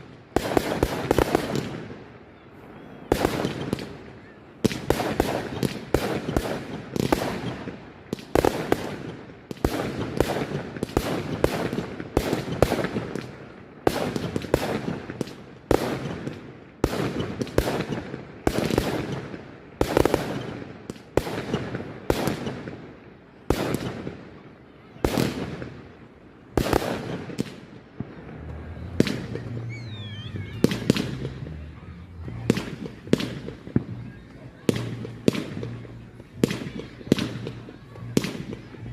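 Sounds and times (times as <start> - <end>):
firework bursts and crackles: 0.0 - 38.9.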